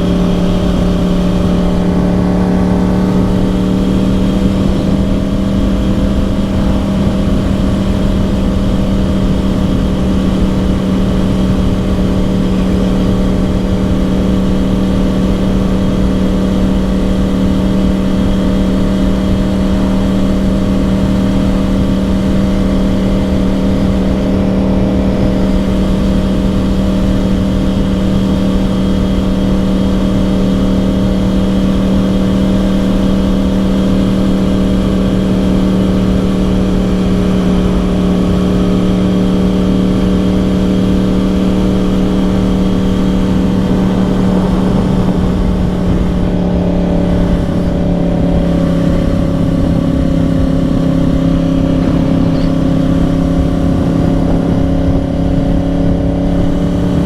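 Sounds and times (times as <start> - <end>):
motorcycle engine cruising: 0.0 - 57.0
wind rush: 0.0 - 57.0.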